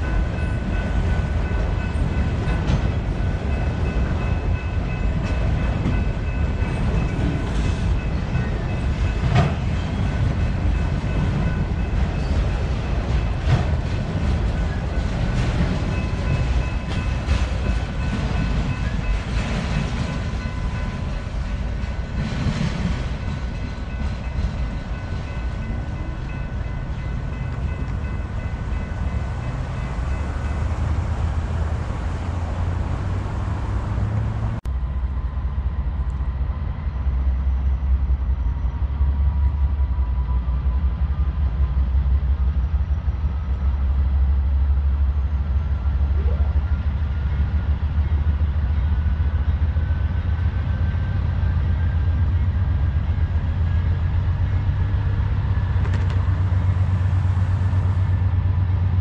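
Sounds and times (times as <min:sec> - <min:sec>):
diesel locomotive rumble: 0:00.0 - 0:59.0
freight train wheels rumbling on rail: 0:00.0 - 0:59.0.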